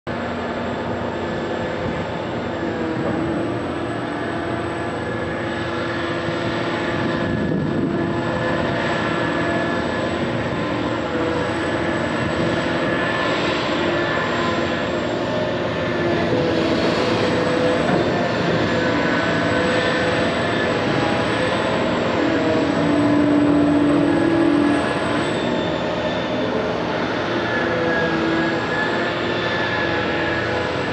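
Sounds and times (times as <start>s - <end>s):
dredger machinery whining: 0.1s - 30.9s.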